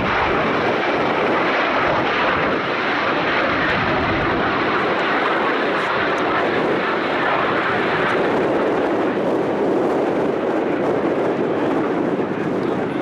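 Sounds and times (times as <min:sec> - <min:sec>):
jet aircraft engine rushing: 0:00.0 - 0:13.0.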